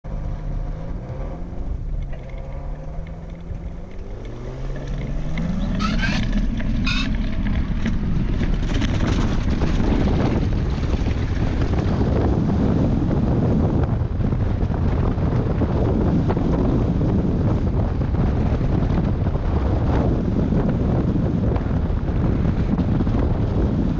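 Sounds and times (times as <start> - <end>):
launch cart wheels rumbling: 0.0 - 23.8
wind rushing on microphone: 0.1 - 23.9.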